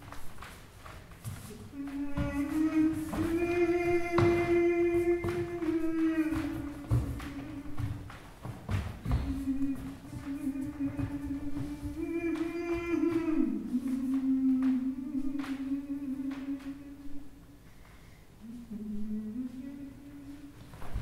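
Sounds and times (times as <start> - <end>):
person humming long notes: 1.4 - 8.1, 8.8 - 17.4, 18.4 - 20.6.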